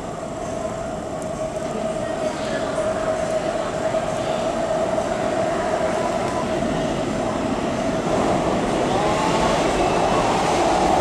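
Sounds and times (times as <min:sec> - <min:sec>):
train rumbling through tunnel: 0:00.0 - 0:11.0.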